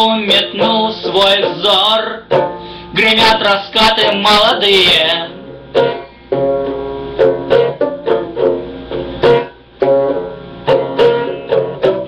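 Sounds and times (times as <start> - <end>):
plucked string instrument chords: 0.0 - 12.0.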